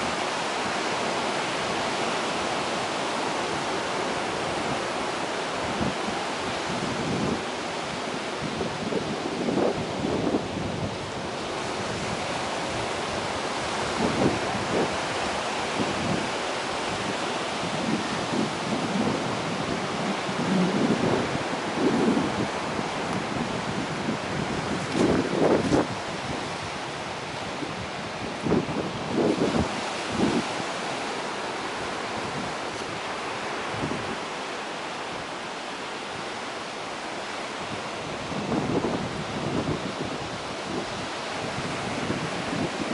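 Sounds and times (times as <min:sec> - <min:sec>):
surf breaking on rocks: 0:00.0 - 0:42.9.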